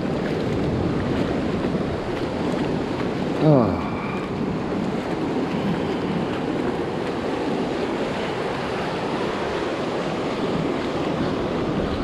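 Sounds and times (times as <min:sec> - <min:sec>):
ocean surf on a beach: 0:00.0 - 0:12.0.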